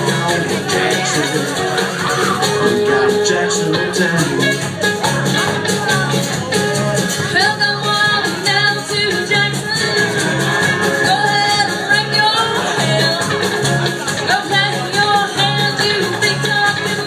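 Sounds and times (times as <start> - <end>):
country band playing: 0.0 - 17.0
woman singing lead: 0.0 - 17.0.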